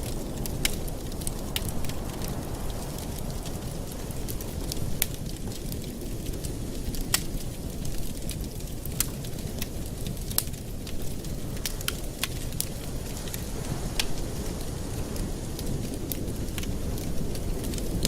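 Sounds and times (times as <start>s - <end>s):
fire low rumble: 0.0s - 18.0s
wood fire crackling: 0.0s - 18.0s.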